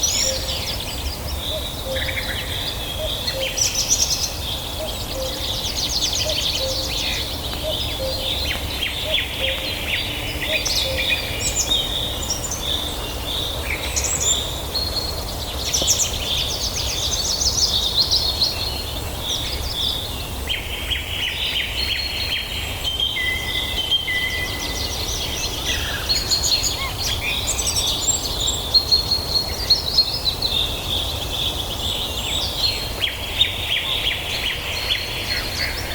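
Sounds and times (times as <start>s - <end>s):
songbirds singing: 0.0s - 35.9s.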